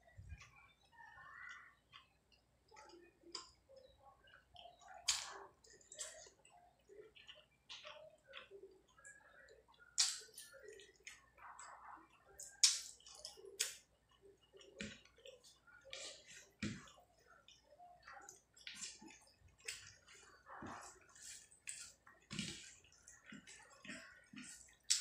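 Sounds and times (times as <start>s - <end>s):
lip smacks and chewing: 0.0s - 25.0s.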